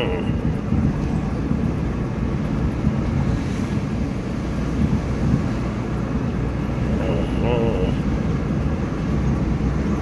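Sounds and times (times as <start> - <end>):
car engine and road noise inside cabin: 0.0 - 10.0.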